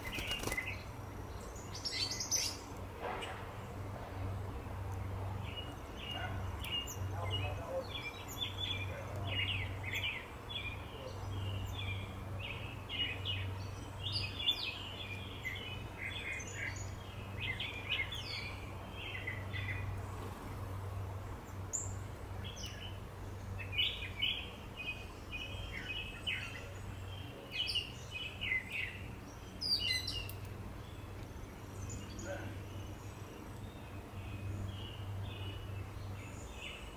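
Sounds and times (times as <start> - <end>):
songbirds twittering: 0.0 - 36.9.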